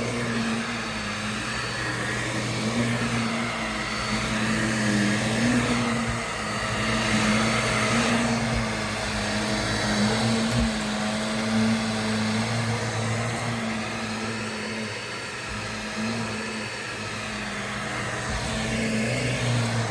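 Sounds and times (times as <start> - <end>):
vacuum cleaner motor humming: 0.0 - 19.9.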